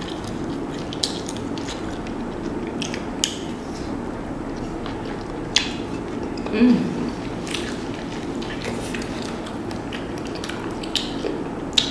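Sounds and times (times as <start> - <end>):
low background noise: 0.0 - 11.9.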